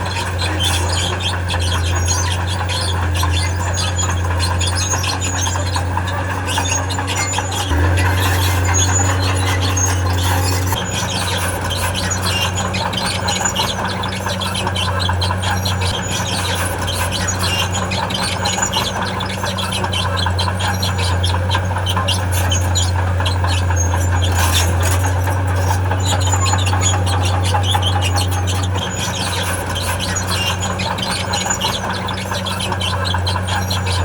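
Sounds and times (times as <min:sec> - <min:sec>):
diesel engine running under load: 0:00.0 - 0:34.0
steel tracks squealing and clicking: 0:00.0 - 0:34.0.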